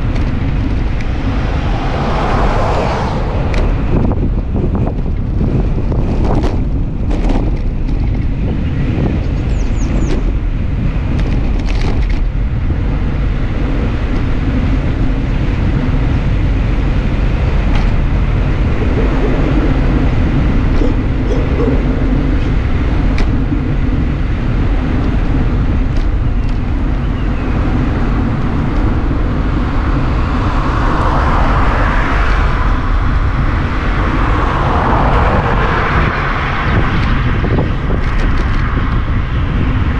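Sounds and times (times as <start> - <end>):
car passing: 0.0 - 7.0, 12.8 - 26.2, 26.8 - 39.9
tyre and road rumble: 0.0 - 39.9
wind buffeting microphone: 0.0 - 39.9.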